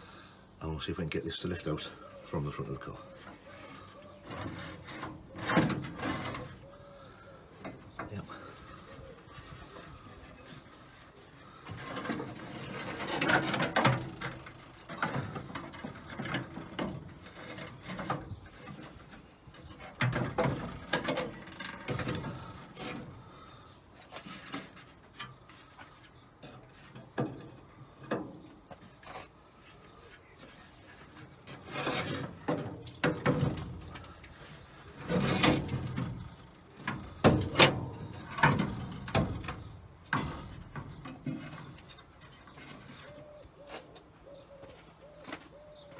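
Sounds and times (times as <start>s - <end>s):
car radiator knocking and scraping: 3.2s - 6.7s, 7.6s - 43.4s.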